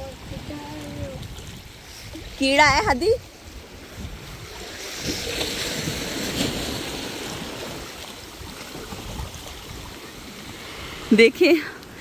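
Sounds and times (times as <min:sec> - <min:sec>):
wind on microphone: 0:00.0 - 0:11.2
sea waves breaking: 0:00.0 - 0:12.0.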